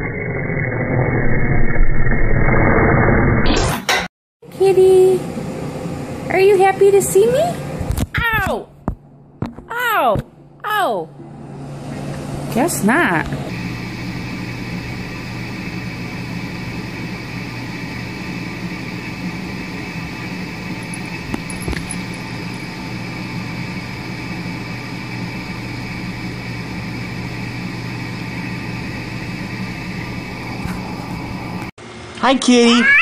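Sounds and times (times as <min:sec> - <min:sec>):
steady mechanical hum: 0:04.5 - 0:32.8.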